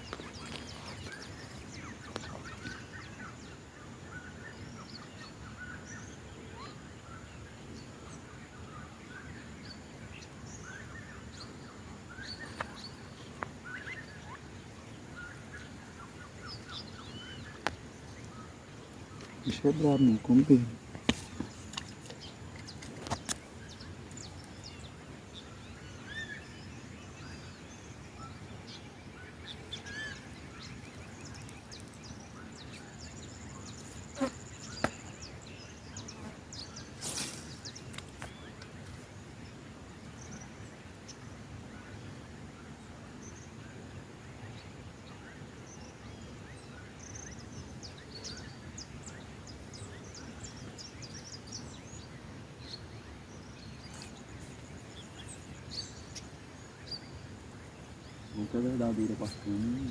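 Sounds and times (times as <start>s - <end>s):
background hiss: 0.0s - 59.9s
wild birds chirping: 0.0s - 59.9s.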